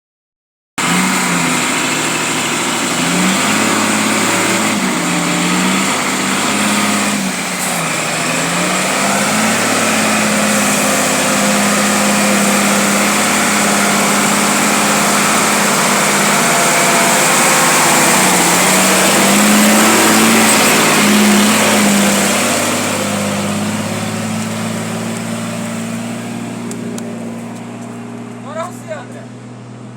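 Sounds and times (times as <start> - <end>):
small engine running under load: 0.8 - 29.9.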